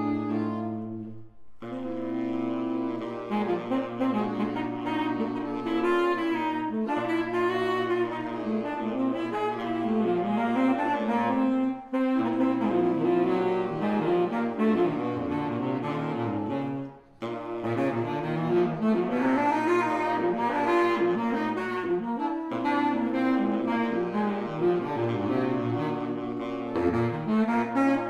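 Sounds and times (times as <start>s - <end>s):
saxophone quartet in close harmony: 0.0s - 28.0s.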